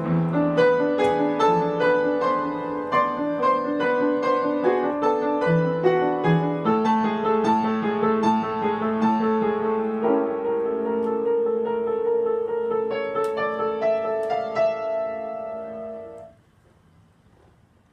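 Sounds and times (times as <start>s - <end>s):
piano playing: 0.0s - 16.4s.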